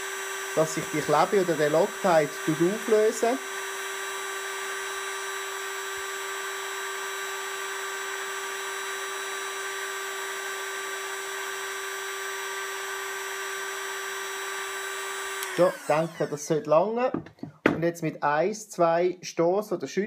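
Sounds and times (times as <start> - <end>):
hot air gun whining: 0.0 - 16.8.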